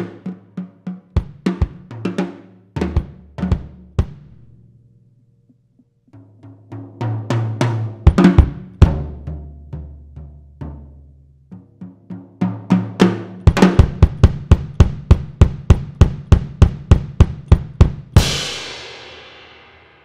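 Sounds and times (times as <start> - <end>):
drum kit playing: 0.0 - 4.5, 6.2 - 20.0.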